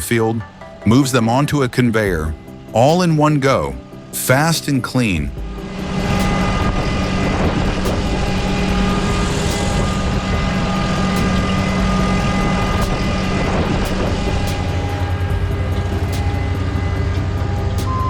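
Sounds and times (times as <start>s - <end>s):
harvester engine drone: 0.8s - 18.0s.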